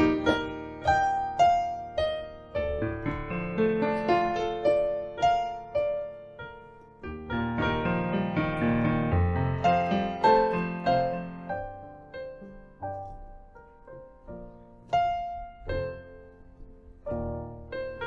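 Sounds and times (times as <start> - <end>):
solo piano playing: 0.0 - 18.0.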